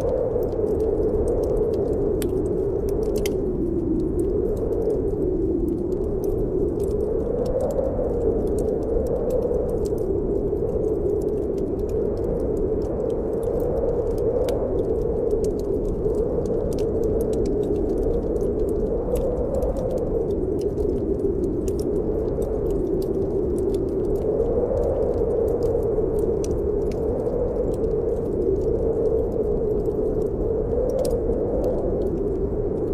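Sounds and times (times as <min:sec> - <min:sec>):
moaning storm wind: 0:00.0 - 0:32.9
wood fire crackling: 0:00.0 - 0:32.9.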